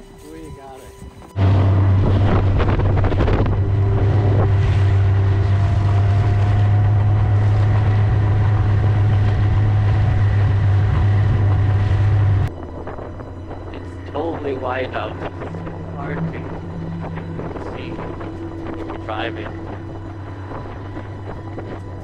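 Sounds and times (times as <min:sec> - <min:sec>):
wind buffeting microphone: 0:01.0 - 0:22.0
snowmobile engine droning: 0:01.3 - 0:22.0.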